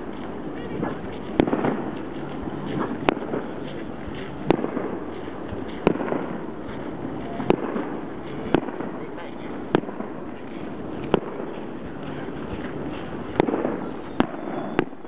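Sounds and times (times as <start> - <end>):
firework crackling: 0.0 - 15.0
firework shells booming: 0.0 - 15.0.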